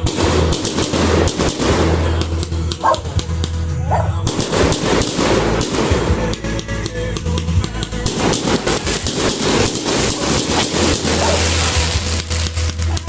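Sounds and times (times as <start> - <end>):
fireworks popping and crackling: 0.0 - 3.6, 4.2 - 13.0
background music: 0.0 - 13.0.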